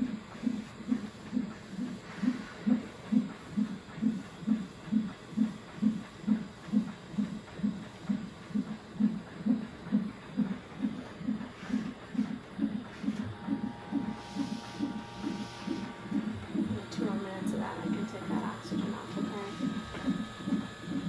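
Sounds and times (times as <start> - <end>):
fetal heartbeat on doppler speaker: 0.0 - 21.0.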